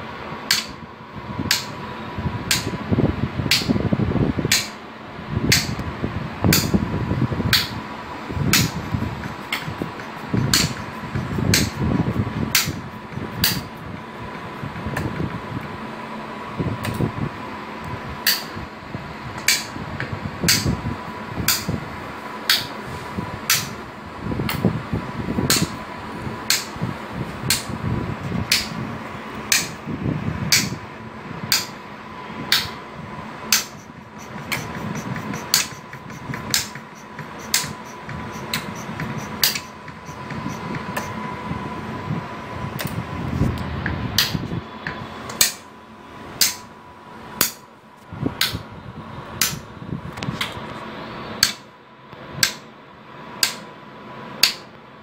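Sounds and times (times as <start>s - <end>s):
fan-like hum: 0.0s - 55.0s.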